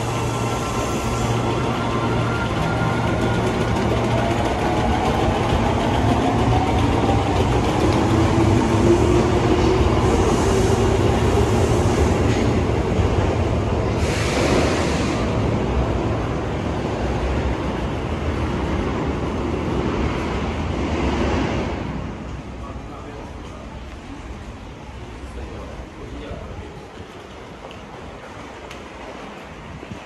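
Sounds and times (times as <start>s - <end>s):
wheels rumbling on rails: 0.0s - 30.0s.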